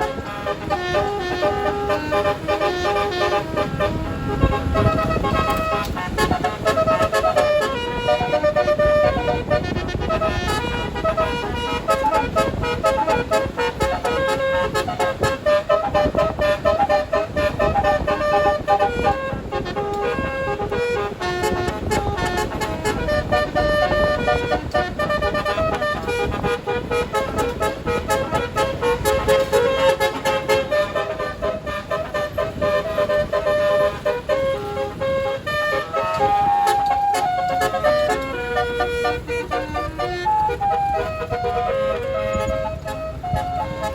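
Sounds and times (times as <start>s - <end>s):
bus air horn melody: 0.0s - 43.9s.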